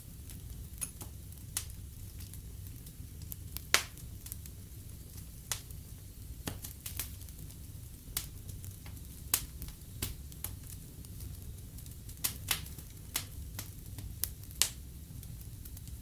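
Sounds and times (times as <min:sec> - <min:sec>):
fire burning in a fireplace: 0:00.0 - 0:16.0
fire crackles and pops: 0:00.0 - 0:16.0.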